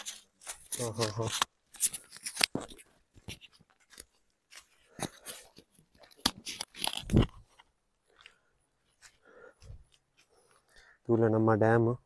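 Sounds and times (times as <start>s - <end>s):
rustling: 0.0s - 10.8s.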